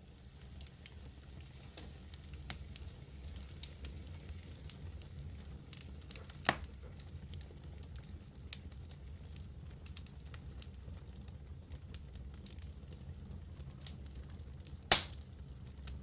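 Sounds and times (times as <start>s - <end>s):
fire popping: 0.0s - 16.0s
wood fire roaring and crackling: 0.0s - 16.0s.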